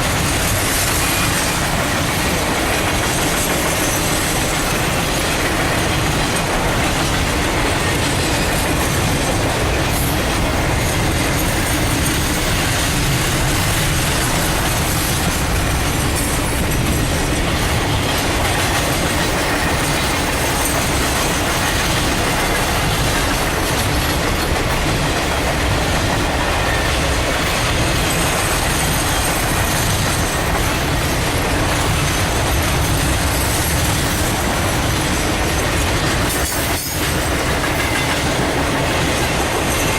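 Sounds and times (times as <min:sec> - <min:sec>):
train wheels clattering on rail: 0:00.0 - 0:39.9.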